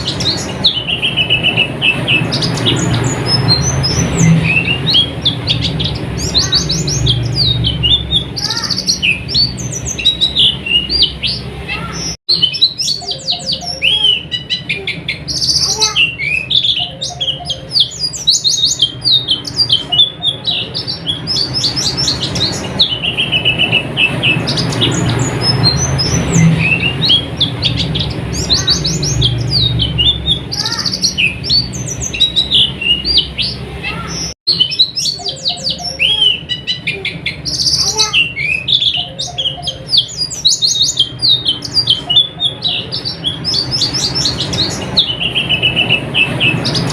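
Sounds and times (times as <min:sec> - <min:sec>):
birds twittering: 0:00.0 - 0:46.9.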